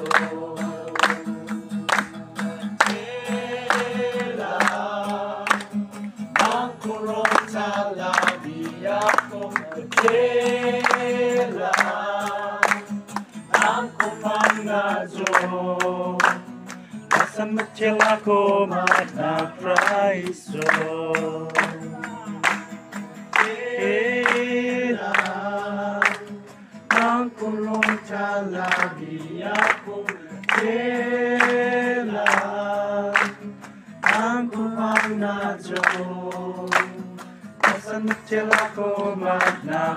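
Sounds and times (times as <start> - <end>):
acoustic guitar strumming: 0.0 - 39.9
congregation singing: 0.0 - 39.9.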